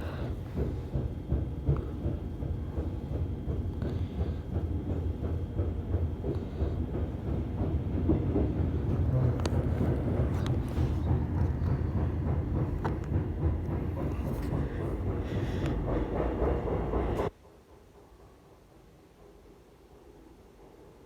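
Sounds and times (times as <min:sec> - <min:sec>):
electric train rumbling: 0:00.0 - 0:21.0
faint rail clicks: 0:00.2 - 0:17.3.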